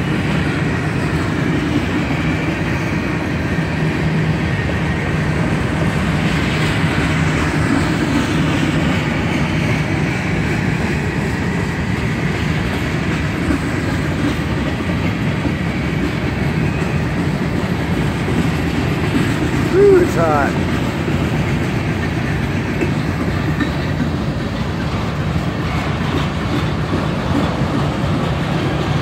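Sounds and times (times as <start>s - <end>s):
train wheels running on rails: 0.0s - 29.0s.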